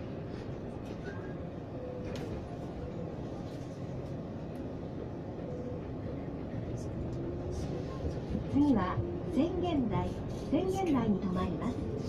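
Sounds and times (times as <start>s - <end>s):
train car rumble: 0.0s - 12.0s.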